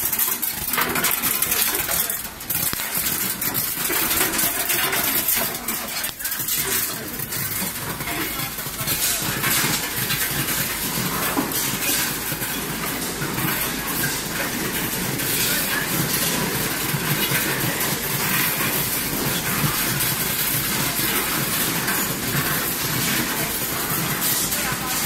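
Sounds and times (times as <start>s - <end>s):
nuts clattering through metal chute: 0.0s - 25.0s
processing machine running: 0.0s - 25.0s.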